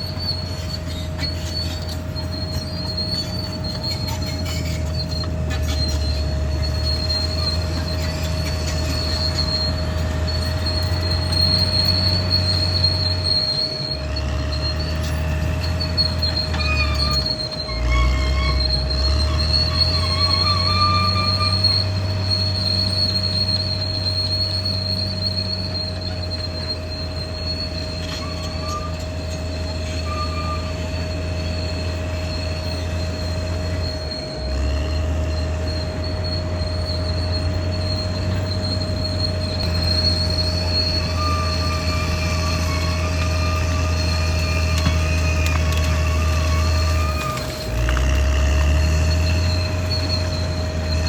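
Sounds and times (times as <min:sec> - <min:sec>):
bulldozer diesel engine under load: 0:00.0 - 0:51.0
high-pitched metallic track squeal: 0:00.0 - 0:51.0.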